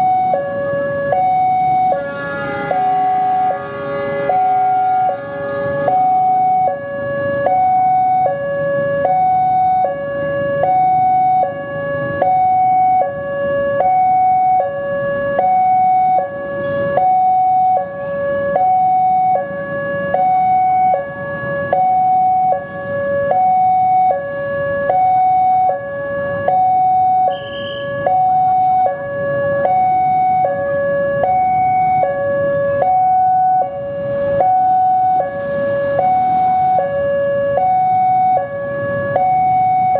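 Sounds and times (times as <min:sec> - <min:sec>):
road traffic: 0:00.0 - 0:39.9
two-tone level crossing alarm: 0:00.0 - 0:39.9.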